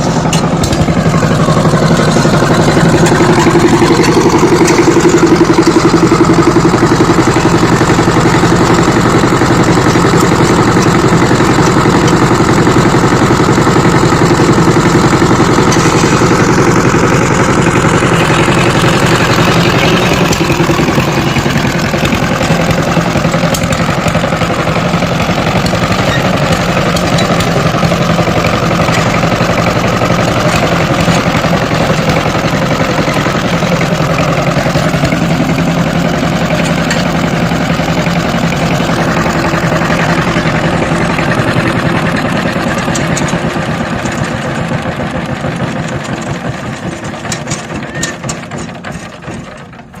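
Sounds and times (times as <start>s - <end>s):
power tiller engine running: 0.0s - 50.0s.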